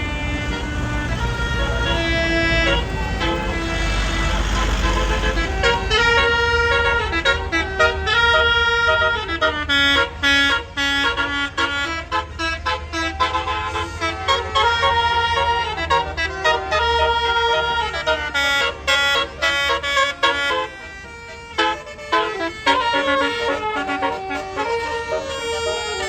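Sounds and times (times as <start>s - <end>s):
bus engine running: 0.0s - 26.0s
bus musical horn playing: 0.0s - 26.0s.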